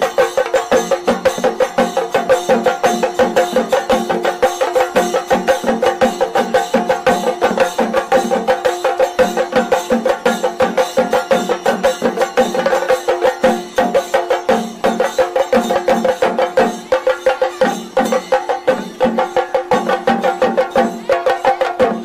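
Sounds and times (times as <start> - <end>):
fast percussion strikes: 0.0 - 22.0.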